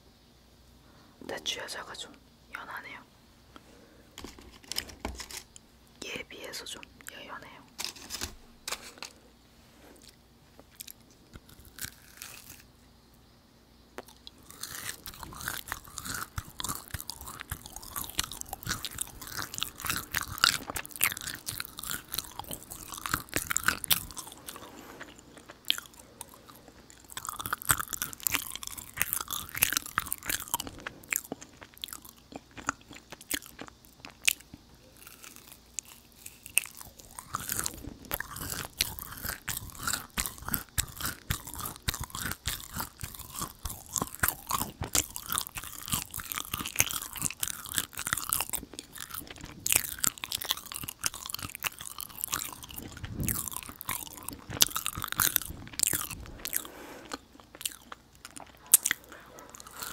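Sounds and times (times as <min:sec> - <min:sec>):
chewing sticky fruit: 0:09.8 - 0:12.8, 0:14.0 - 0:59.9.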